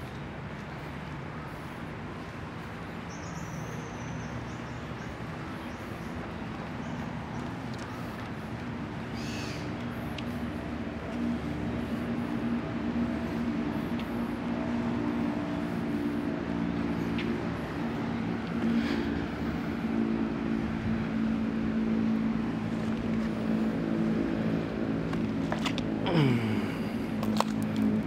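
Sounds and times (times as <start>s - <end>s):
distant traffic: 0.0s - 28.0s
engine droning: 0.0s - 28.0s.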